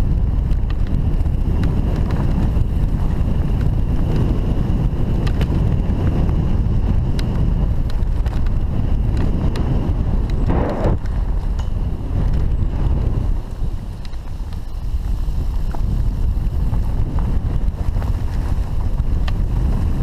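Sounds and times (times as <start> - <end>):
tyres rolling on dirt: 0.0 - 20.0
wind buffeting microphone: 0.0 - 20.0
bike rattling clicks: 0.1 - 20.0.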